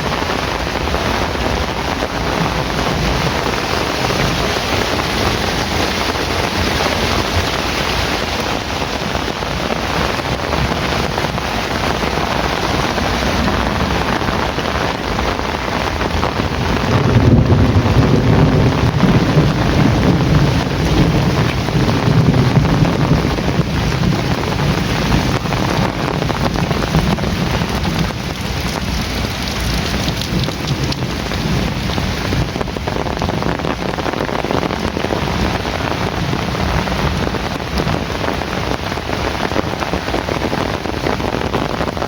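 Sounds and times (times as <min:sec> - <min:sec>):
heavy rain falling: 0:00.0 - 0:42.0
thunder rumbling: 0:00.0 - 0:42.0.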